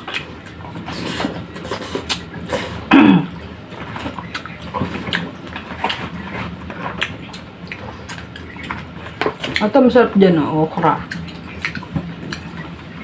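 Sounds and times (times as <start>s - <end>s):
wet chewing and lip smacks: 0.0s - 2.7s, 3.8s - 9.8s, 11.0s - 12.9s.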